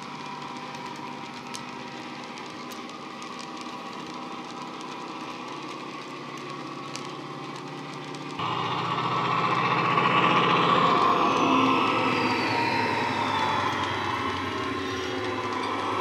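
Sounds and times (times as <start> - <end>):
diesel engine running: 2.2 - 16.0.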